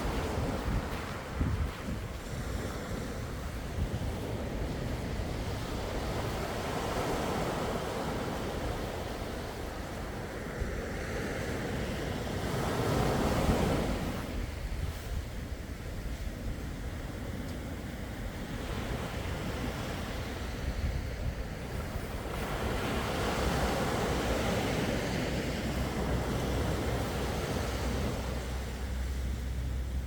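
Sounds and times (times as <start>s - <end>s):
sea waves washing ashore: 0.0s - 30.0s
wind rumble on microphone: 0.0s - 30.0s.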